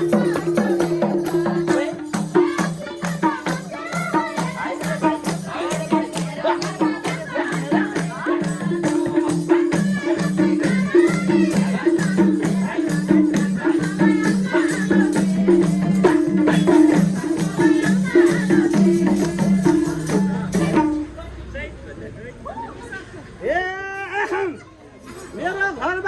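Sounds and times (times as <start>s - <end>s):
folk music with pulsing rhythm: 0.0s - 21.0s
shaker rattling percussion: 0.0s - 21.1s.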